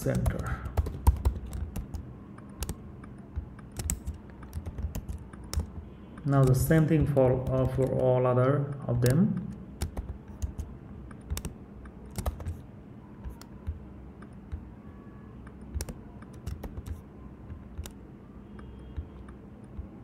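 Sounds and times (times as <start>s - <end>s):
computer keyboard keystrokes: 0.1s - 8.1s, 8.7s - 12.6s, 13.2s - 14.7s, 15.4s - 18.0s.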